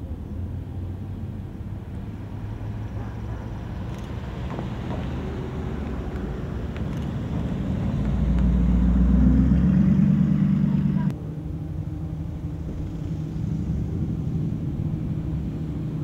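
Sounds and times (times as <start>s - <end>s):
cars passing on street: 0.0s - 16.0s
deep engine rumble approaching: 0.0s - 16.0s.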